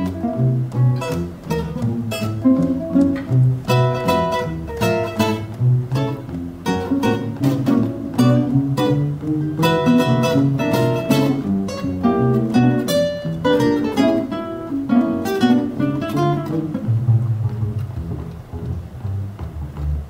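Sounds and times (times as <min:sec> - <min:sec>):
classical guitar ensemble: 0:00.0 - 0:20.0.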